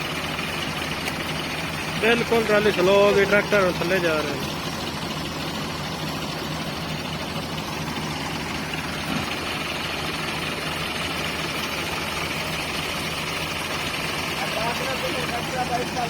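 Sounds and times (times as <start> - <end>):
tractor engines straining: 0.0 - 16.0.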